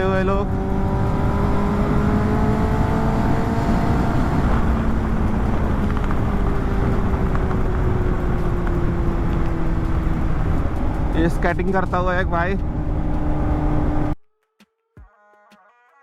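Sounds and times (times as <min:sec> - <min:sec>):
heavy wind noise: 0:00.0 - 0:14.2
motorcycle engine running: 0:00.0 - 0:14.2.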